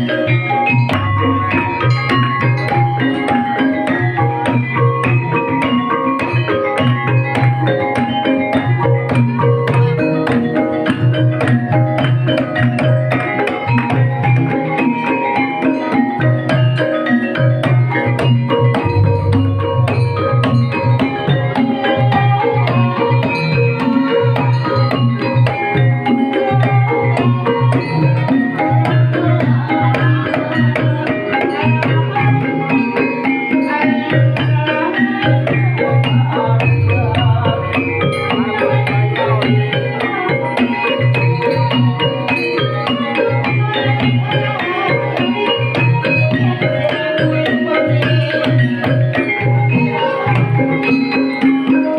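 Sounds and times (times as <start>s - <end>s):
gamelan music: 0.0s - 51.9s
hand drums: 0.0s - 51.9s
struck mallet instruments: 0.0s - 51.9s.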